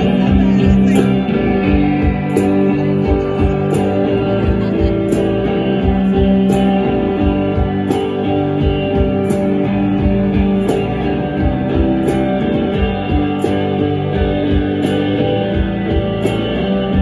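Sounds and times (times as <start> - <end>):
bass guitar: 0.0 - 17.0
electric guitars: 0.0 - 17.0
steady drum beat: 0.0 - 17.0.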